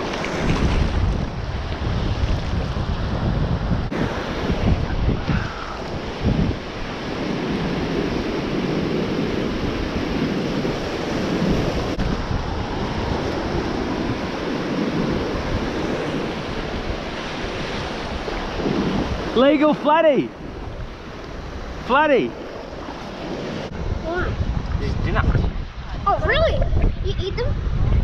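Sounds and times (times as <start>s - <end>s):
surf washing: 0.0s - 28.0s
wind buffeting microphone: 0.0s - 28.0s.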